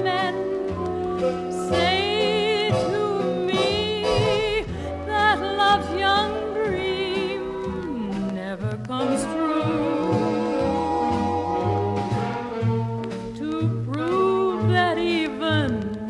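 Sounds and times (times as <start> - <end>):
orchestral music from vinyl: 0.0 - 16.0.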